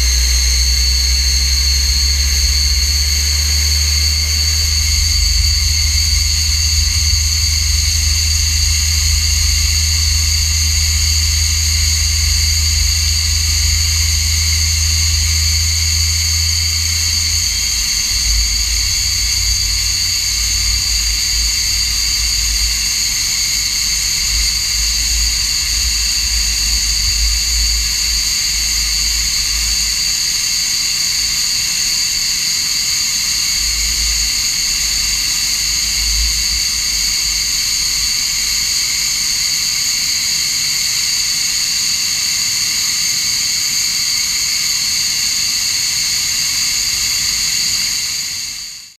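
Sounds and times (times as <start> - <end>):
jet engine running: 0.0 - 41.5.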